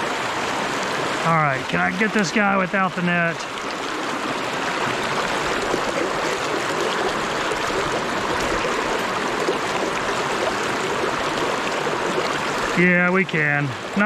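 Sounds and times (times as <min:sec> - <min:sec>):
river water rushing over rocks: 0:00.0 - 0:14.0.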